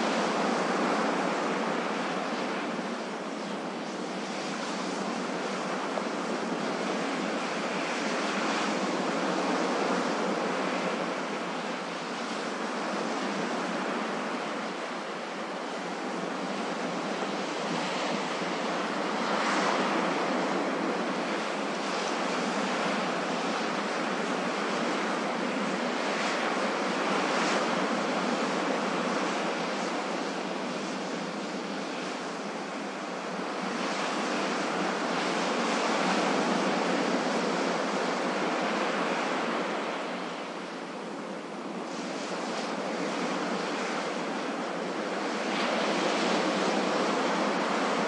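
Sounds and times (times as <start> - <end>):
waves breaking on beach: 0.0 - 48.0.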